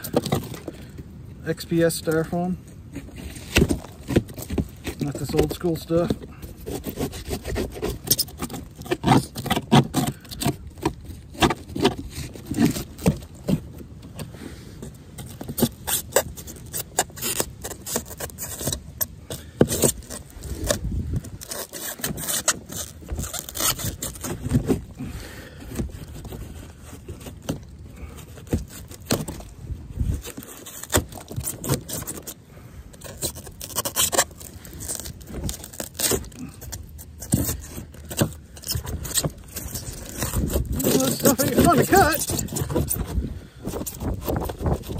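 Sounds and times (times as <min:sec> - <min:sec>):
screwdriver scraping styrofoam: 0:03.0 - 0:13.6, 0:14.8 - 0:24.9, 0:25.7 - 0:29.5, 0:30.1 - 0:32.4, 0:33.0 - 0:44.9.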